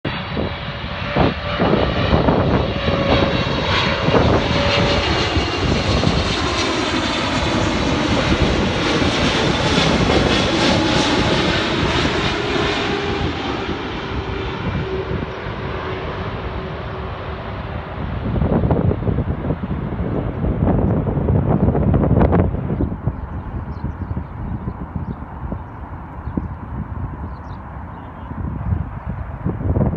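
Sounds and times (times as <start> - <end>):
faint jet engine whine: 0.1 - 29.9
jet engine roar: 0.1 - 29.9.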